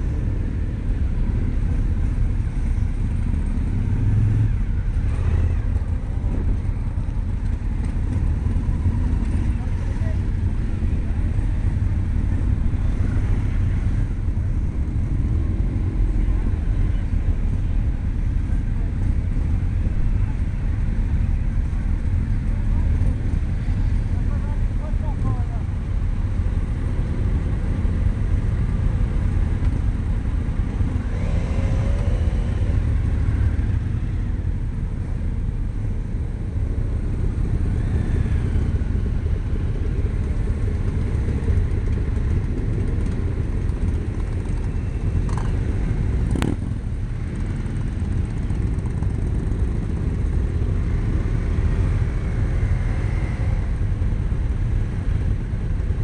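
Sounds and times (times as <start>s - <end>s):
motorcycle engines rumbling: 0.0s - 56.0s.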